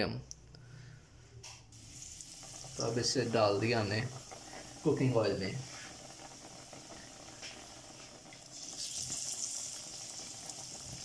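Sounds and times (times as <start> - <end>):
bread deep-frying in oil: 1.7 - 11.0.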